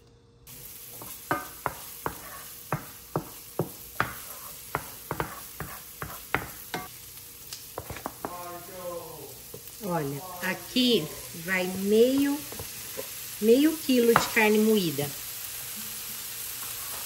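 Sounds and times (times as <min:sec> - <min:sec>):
onion sizzling in a pan: 0:00.0 - 0:17.0.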